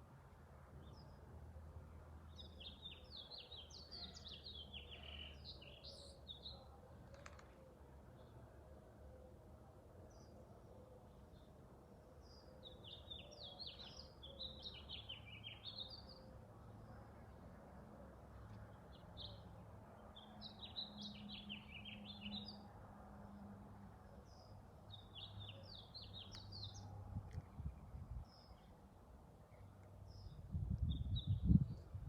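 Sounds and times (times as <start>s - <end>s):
songbird chirping: 2.2s - 8.4s, 10.0s - 32.0s.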